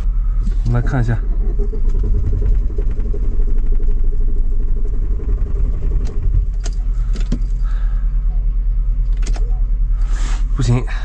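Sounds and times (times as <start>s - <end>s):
diesel engine cranking: 0.0s - 11.0s
low rumble: 0.0s - 11.0s.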